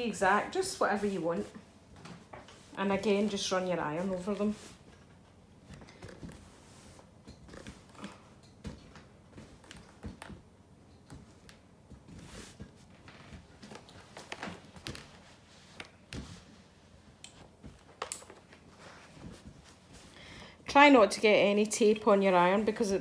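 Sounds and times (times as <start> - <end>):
fabric rustling: 0.0 - 10.4, 11.0 - 21.5.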